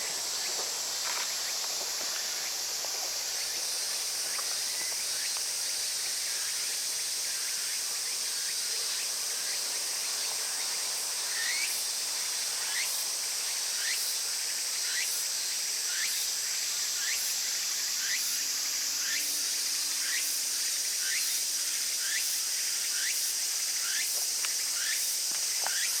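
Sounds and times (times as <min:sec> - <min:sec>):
insect chirping: 0:00.0 - 0:26.0
insects droning: 0:00.0 - 0:26.0.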